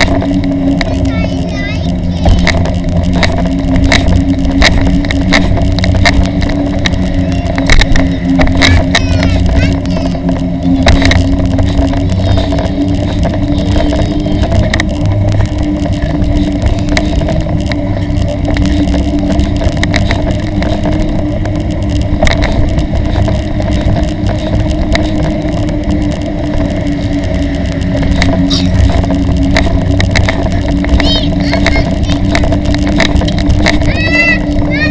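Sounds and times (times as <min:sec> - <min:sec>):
bicycle trailer rolling rumble: 0:00.0 - 0:34.9
clicks and rattles: 0:00.0 - 0:34.9
constant hum: 0:00.0 - 0:34.9.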